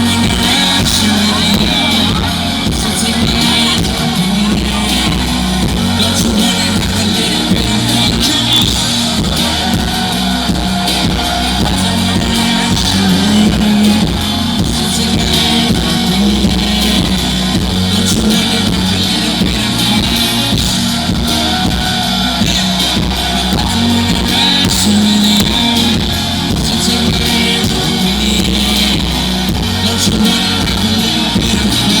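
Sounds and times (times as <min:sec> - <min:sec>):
live band music: 0:00.0 - 0:32.0.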